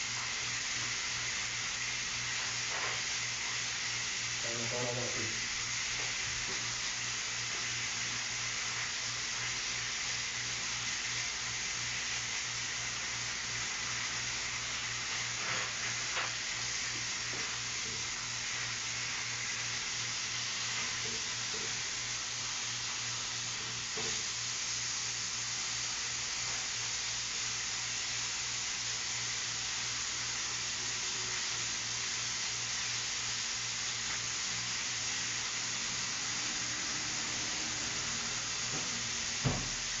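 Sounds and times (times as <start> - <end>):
food sizzling in a frying pan: 0.0 - 40.0.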